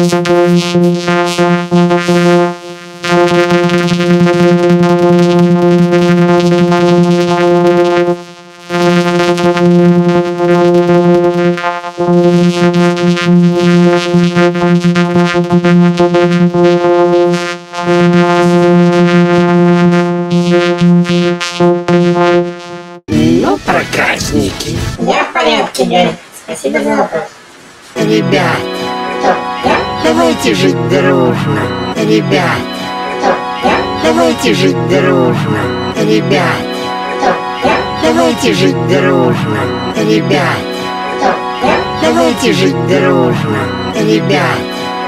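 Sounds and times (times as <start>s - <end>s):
loud synthesized buzz: 0.0s - 25.0s, 28.0s - 45.0s.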